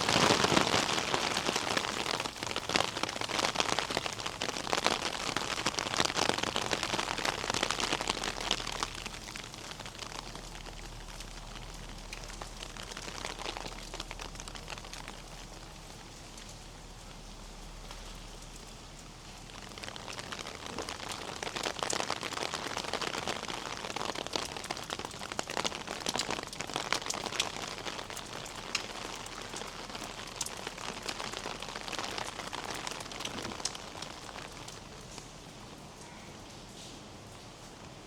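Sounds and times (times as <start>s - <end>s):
rain drops ticking: 0.0s - 38.0s.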